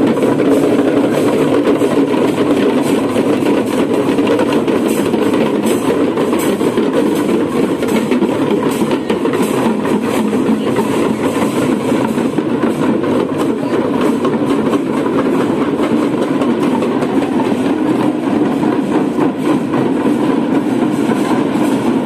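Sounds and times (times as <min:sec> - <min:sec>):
marching drummers drumming: 0:00.0 - 0:22.0.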